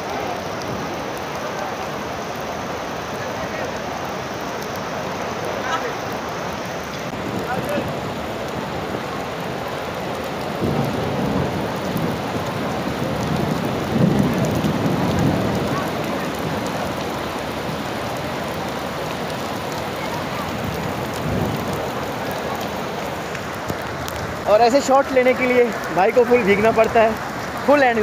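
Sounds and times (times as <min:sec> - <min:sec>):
heavy rain on stone paving: 0:00.0 - 0:28.0.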